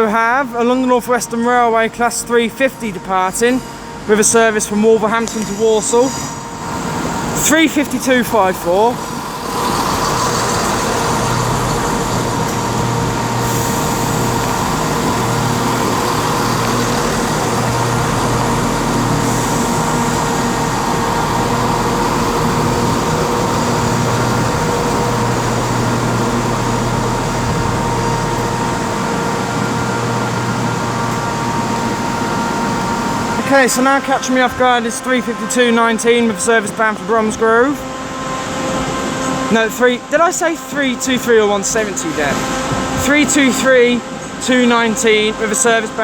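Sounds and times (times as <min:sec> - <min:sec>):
train engine hum: 0:00.0 - 0:46.0
faint steady whine: 0:01.0 - 0:46.0.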